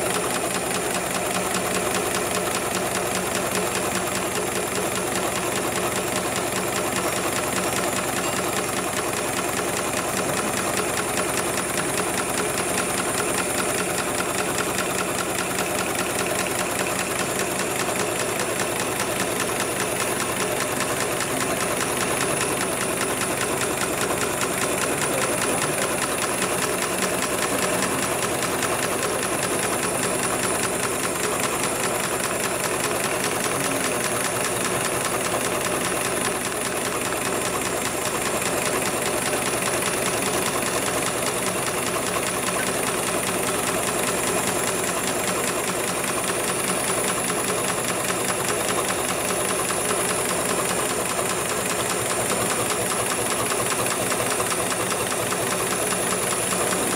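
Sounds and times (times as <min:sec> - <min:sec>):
sewing machine stitching: 0:00.0 - 0:56.9.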